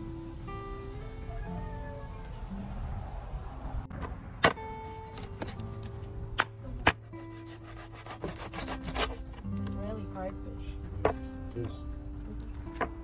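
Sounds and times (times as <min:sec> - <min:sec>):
soft acoustic guitar music: 0:00.0 - 0:13.0.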